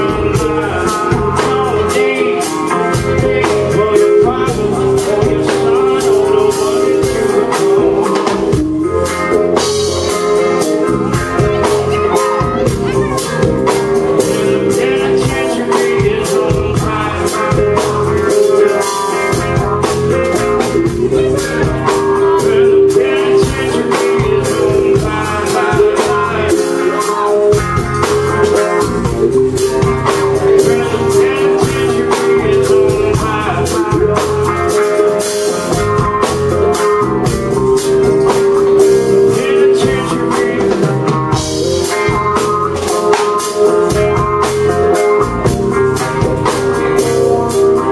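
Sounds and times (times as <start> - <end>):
drum kit: 0.0 - 47.9
electric guitar: 0.0 - 47.9.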